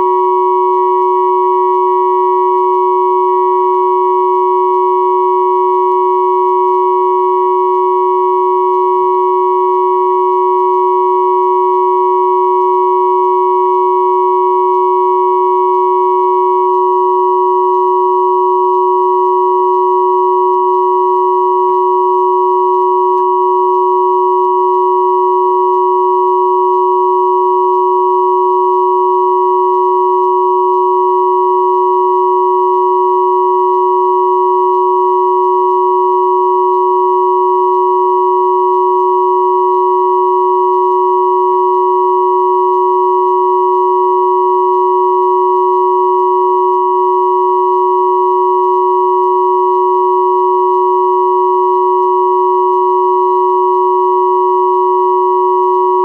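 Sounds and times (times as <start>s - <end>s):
steady sine tone chord: 0.0s - 56.0s.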